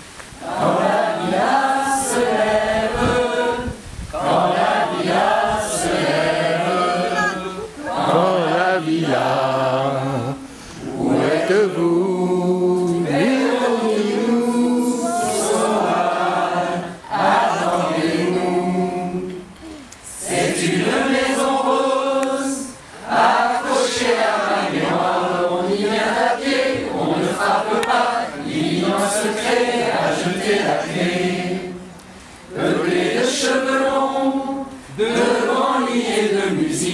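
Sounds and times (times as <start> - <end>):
mixed choir singing unaccompanied: 0.4 - 36.9.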